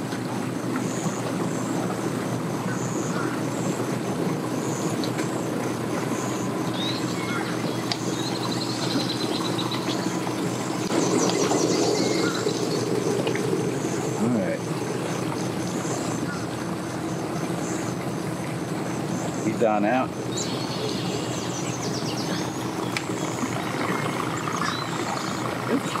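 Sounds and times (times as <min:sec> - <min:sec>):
birds chirping: 0:00.0 - 0:26.0
outboard motor idling: 0:00.0 - 0:26.0.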